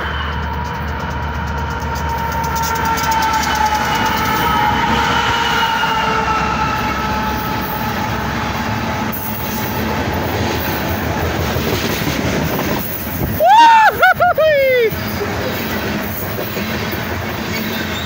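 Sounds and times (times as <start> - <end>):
locomotive high tone: 0.0 - 18.0
train cars rumbling: 0.0 - 18.0.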